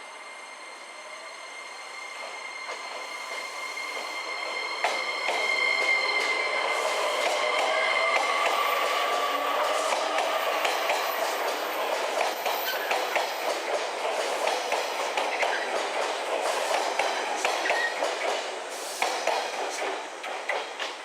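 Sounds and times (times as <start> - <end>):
train wheel squeals: 0.0 - 20.8
train wheels clicking on rails: 2.1 - 21.0.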